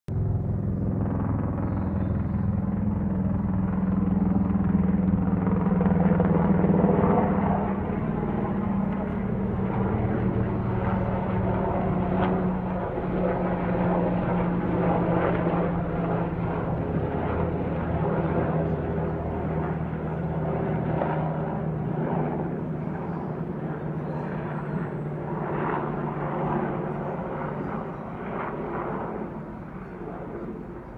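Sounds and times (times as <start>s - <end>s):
helicopter flying past: 0.1s - 30.9s.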